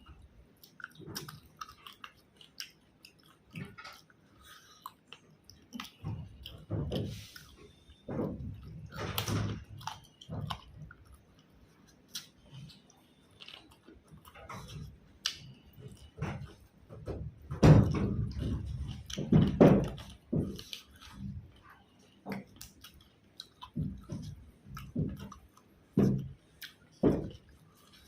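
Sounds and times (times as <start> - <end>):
person chewing and mouth sounds: 0.0 - 28.0.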